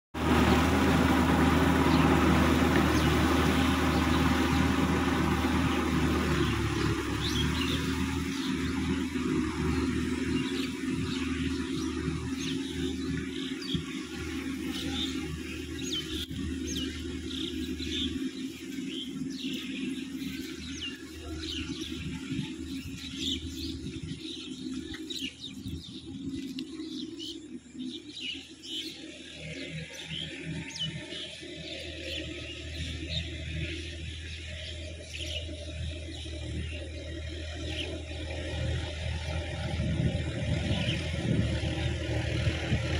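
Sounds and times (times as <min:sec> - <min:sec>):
tractor diesel engine running: 0:00.1 - 0:42.9
birds chirping: 0:00.2 - 0:42.9.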